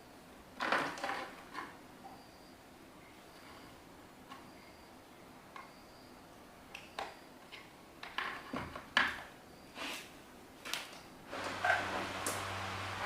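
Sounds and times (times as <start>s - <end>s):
low electric hum: 0.0s - 13.0s.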